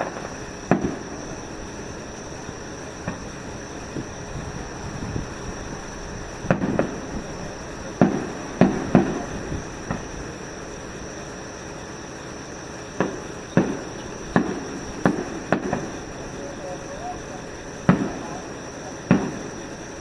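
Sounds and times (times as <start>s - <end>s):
fireworks bangs echoing: 0.0s - 10.6s, 12.9s - 20.0s.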